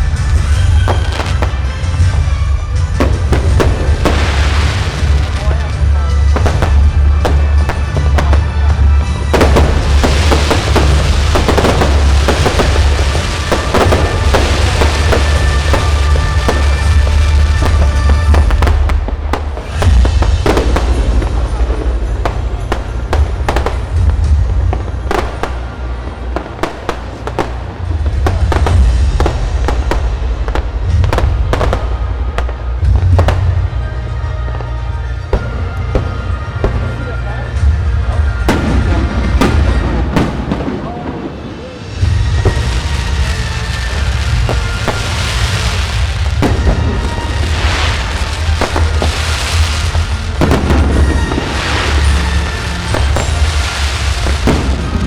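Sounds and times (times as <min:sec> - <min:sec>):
deep rumble: 0:00.0 - 0:55.0
fireworks bangs and crackles: 0:00.0 - 0:55.0.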